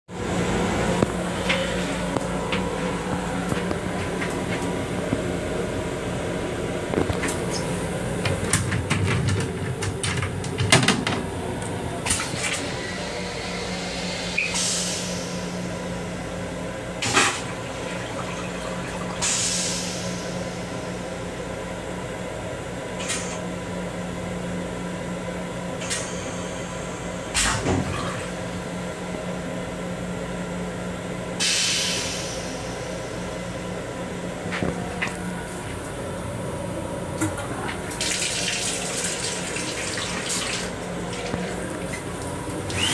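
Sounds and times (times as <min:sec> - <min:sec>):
electric railcar hum: 0:00.1 - 0:27.4, 0:28.4 - 0:39.6, 0:40.7 - 0:42.9.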